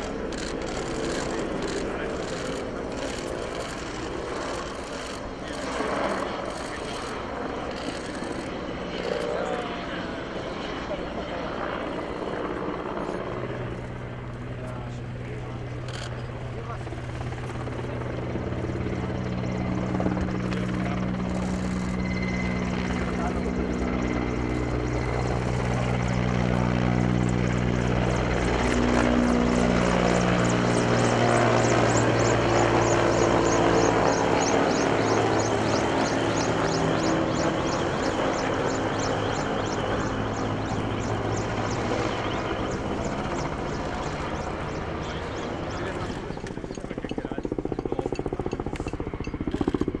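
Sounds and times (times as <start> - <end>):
helicopter engine whine: 0.0 - 50.0
helicopter rotor beat: 0.0 - 50.0.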